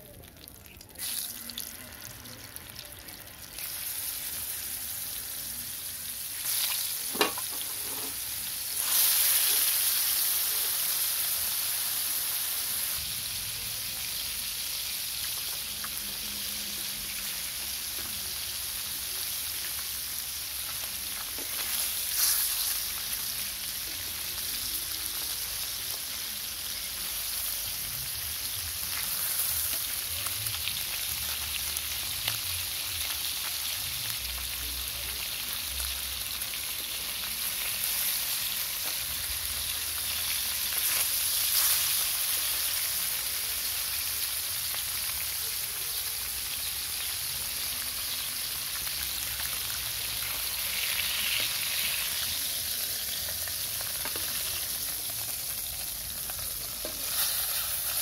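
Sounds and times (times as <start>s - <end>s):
fish sizzling in hot oil: 0.0s - 58.0s.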